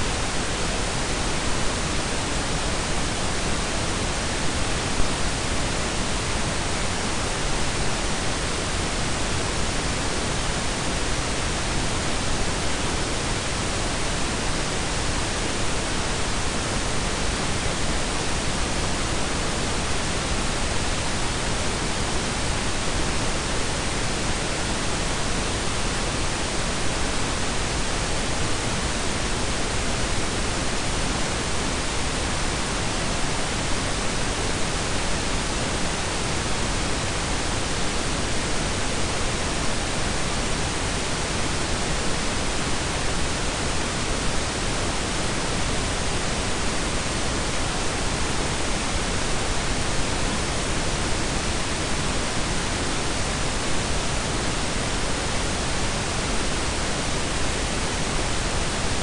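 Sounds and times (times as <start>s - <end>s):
pink and brown noise: 0.0s - 59.0s.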